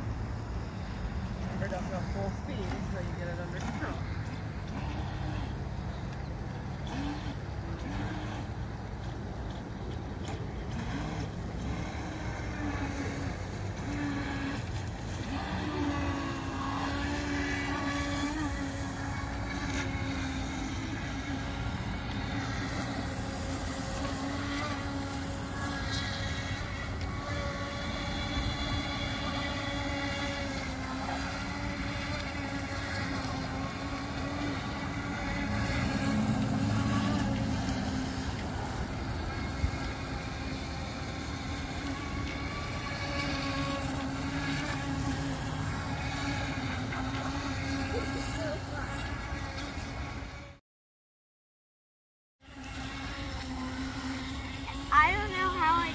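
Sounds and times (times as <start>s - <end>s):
toy speedboat motor humming: 0.0s - 50.6s, 52.4s - 55.9s.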